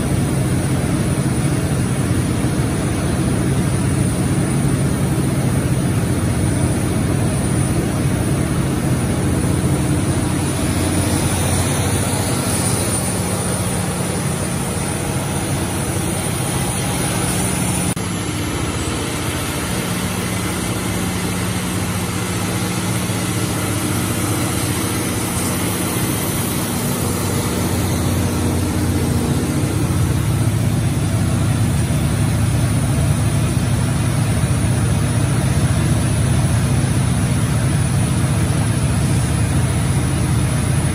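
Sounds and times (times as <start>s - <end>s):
generator engine humming: 0.0s - 40.9s.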